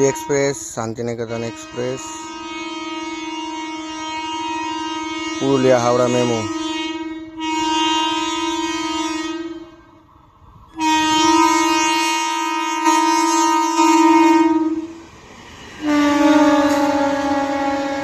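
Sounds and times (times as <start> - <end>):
locomotive air horn blasts: 0.0 - 10.1, 10.7 - 15.1, 15.8 - 18.0.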